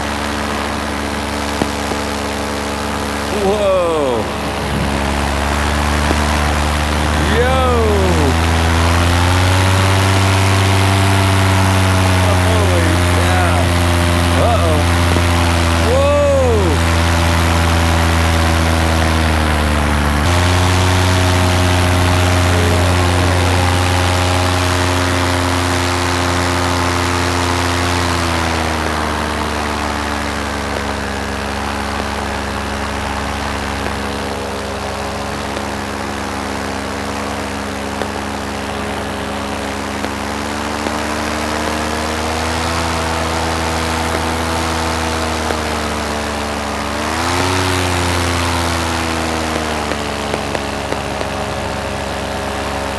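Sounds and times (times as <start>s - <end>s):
paramotor engine and propeller: 0.0s - 52.9s.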